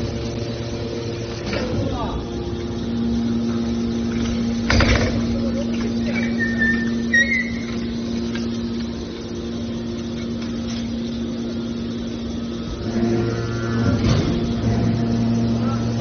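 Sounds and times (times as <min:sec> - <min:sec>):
hydraulic power unit humming: 0:00.0 - 0:16.0
lower hum: 0:00.0 - 0:16.0.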